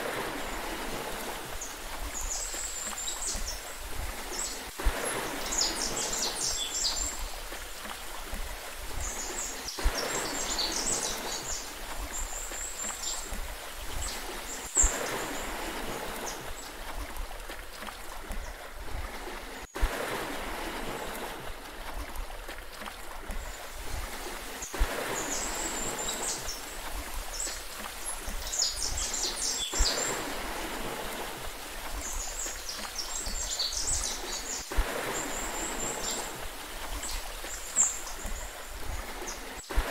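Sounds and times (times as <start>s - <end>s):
sea water lapping: 0.0s - 39.9s.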